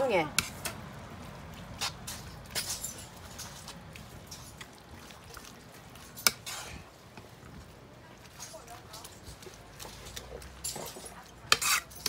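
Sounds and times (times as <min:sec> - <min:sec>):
batter squelching: 0:00.0 - 0:12.0.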